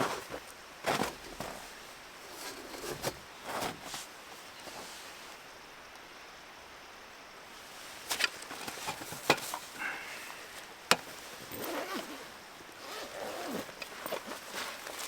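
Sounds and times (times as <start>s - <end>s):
rustling handling noise: 0.0s - 5.4s, 7.5s - 15.0s.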